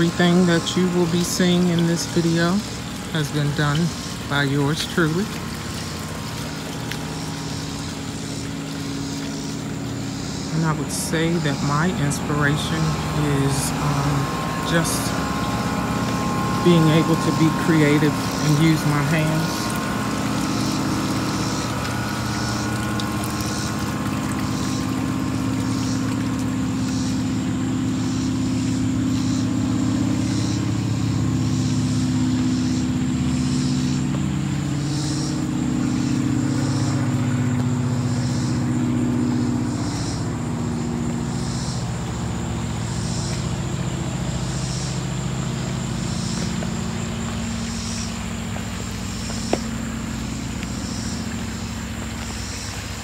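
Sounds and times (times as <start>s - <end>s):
motor drone: 0.0s - 53.0s.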